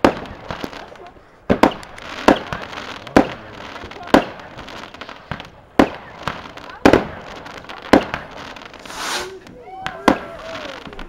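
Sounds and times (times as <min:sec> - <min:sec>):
fireworks bangs: 0:00.0 - 0:11.0
fireworks popping: 0:00.0 - 0:11.0.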